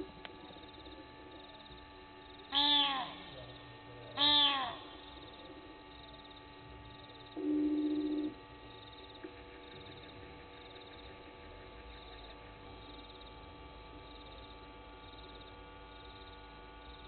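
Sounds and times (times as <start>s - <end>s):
cricket chirping: 0.0s - 17.0s
steady hum: 0.0s - 17.0s.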